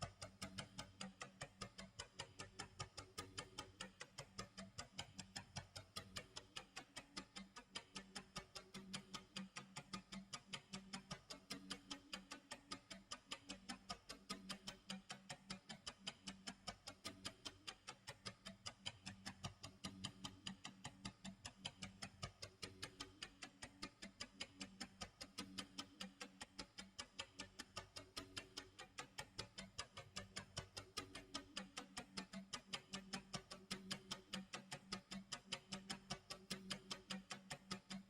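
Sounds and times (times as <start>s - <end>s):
clock ticking: 0.0s - 38.0s.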